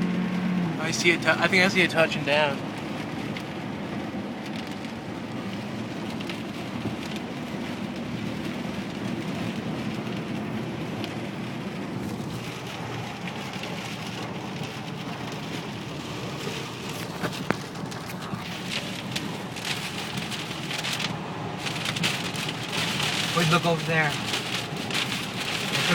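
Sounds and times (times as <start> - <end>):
car road rumble: 0.0 - 25.9
hard rain on a car: 0.0 - 25.9.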